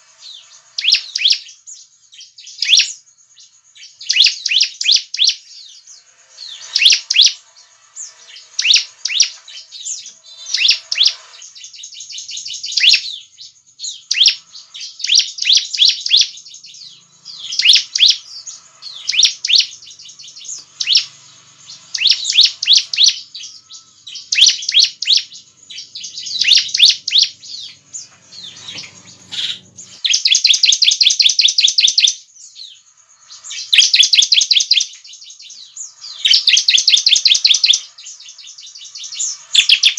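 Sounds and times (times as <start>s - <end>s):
bird rapid trill: 0.0s - 39.9s
bird singing rapid chirps: 0.0s - 39.9s.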